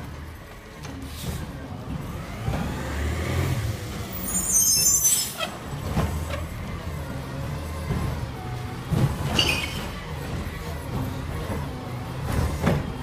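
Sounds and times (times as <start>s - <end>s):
truck engine running: 0.0s - 4.5s, 5.4s - 13.0s.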